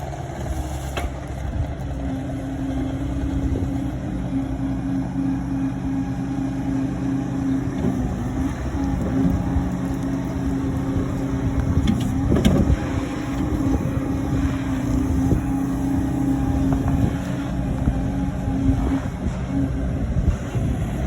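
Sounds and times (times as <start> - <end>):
skid-steer engine running: 0.0 - 21.0.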